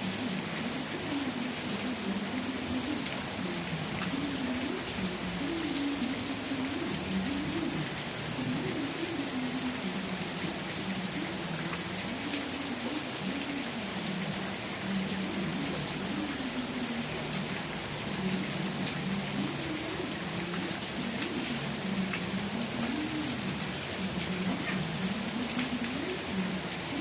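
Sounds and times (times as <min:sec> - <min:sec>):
rain pattering on a surface: 0:00.0 - 0:27.0.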